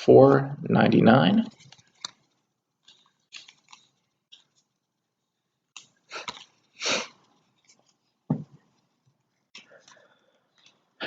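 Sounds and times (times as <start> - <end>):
trading cards rustling and scraping: 1.5 - 11.0.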